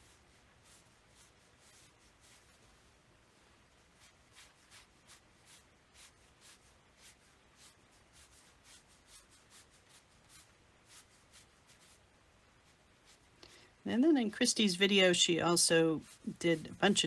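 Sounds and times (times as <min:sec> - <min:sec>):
brush swishing on paper: 0:00.0 - 0:13.4, 0:14.2 - 0:17.0.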